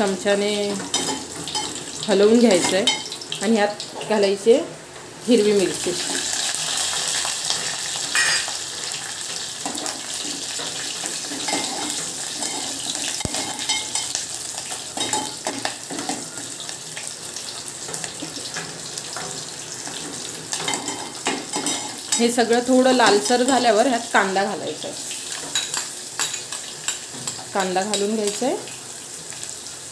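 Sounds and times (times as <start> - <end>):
hot oil sizzling in pot: 0.0 - 29.9.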